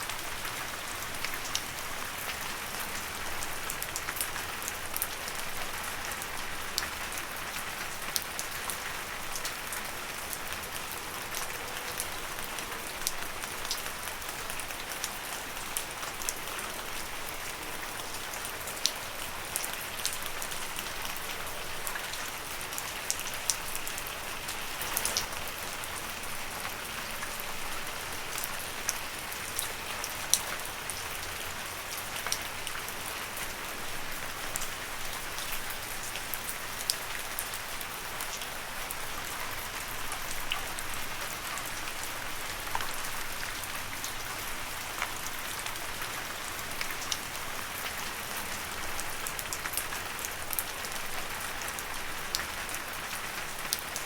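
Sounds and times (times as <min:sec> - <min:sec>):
gentle rain on leaves: 0:00.0 - 0:54.0.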